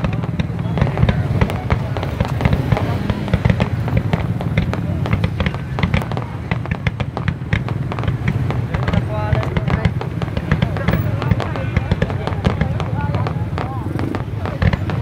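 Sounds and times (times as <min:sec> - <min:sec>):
fireworks cracking and popping: 0:00.0 - 0:15.0
low rumble of shell bursts: 0:00.0 - 0:15.0.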